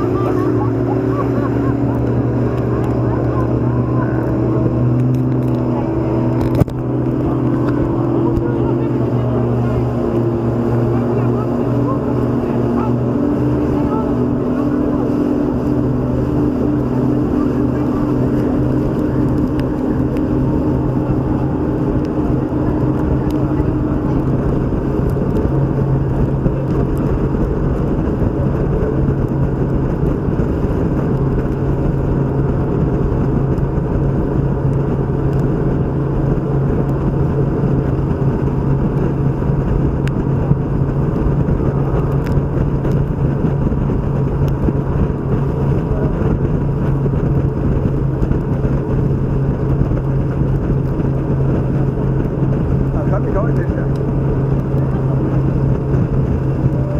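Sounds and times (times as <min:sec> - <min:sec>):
outboard engine running: 0:00.0 - 0:56.9
wind and water rushing: 0:00.0 - 0:56.9.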